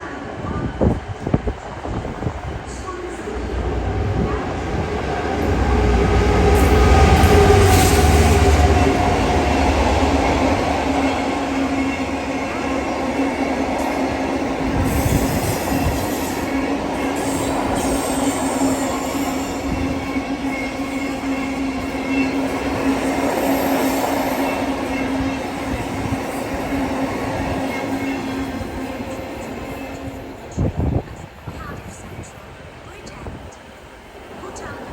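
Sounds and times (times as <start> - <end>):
diesel locomotive engine rumble: 0.0 - 34.9.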